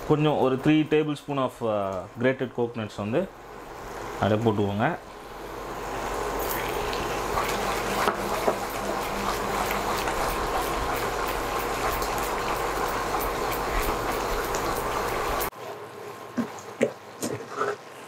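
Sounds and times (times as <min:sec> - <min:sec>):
thick mixture bubbling: 0:03.3 - 0:18.0.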